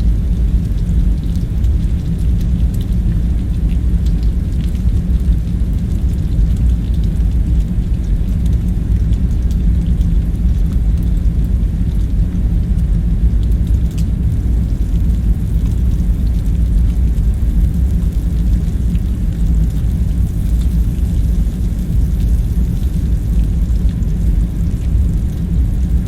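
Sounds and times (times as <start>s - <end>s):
deep rumble: 0.0s - 26.0s.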